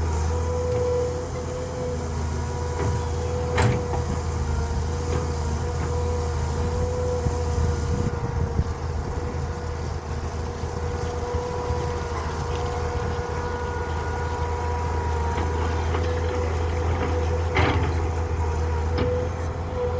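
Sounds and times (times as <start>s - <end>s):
truck engine rumbling: 0.0s - 19.9s.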